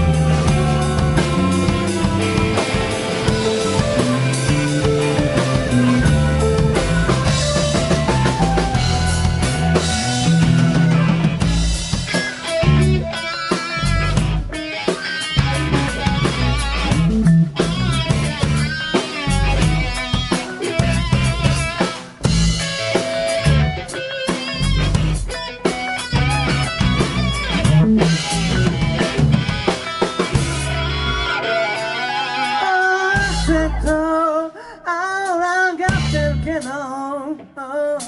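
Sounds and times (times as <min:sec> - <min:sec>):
bass notes: 0:00.0 - 0:14.7, 0:15.3 - 0:32.2, 0:33.1 - 0:34.3, 0:35.9 - 0:36.6
drums: 0:00.0 - 0:38.0
electric guitar: 0:00.0 - 0:38.0.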